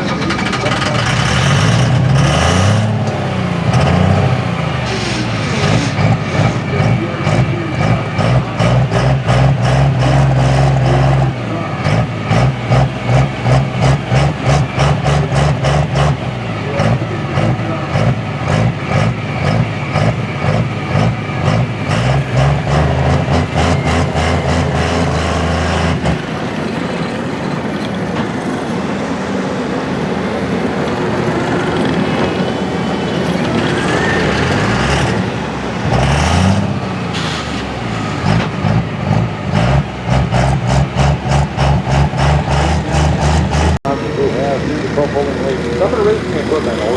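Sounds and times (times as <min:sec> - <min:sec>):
engine revving: 0:00.0 - 0:26.9, 0:28.1 - 0:46.9
diesel truck engine idling: 0:00.0 - 0:46.9.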